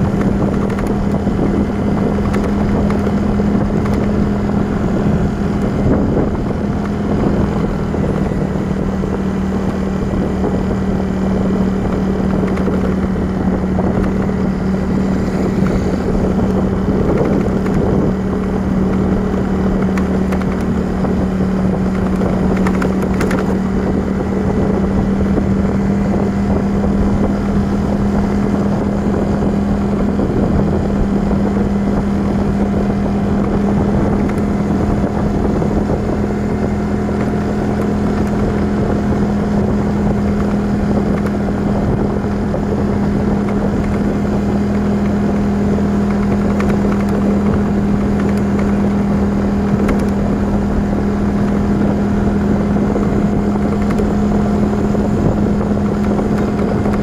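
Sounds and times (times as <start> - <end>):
motorcycle engine humming: 0.0 - 57.0
road and wind noise: 0.0 - 57.0.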